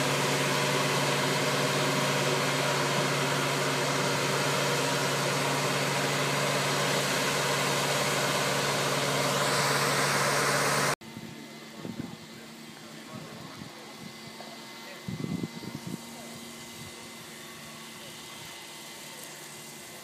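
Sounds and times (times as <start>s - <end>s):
lift engine running with hiss: 0.0s - 20.0s.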